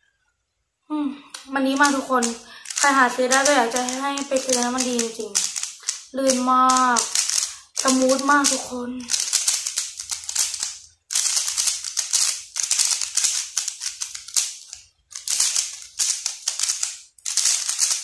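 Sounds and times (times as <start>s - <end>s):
puzzle cube clicking: 1.4s - 18.0s.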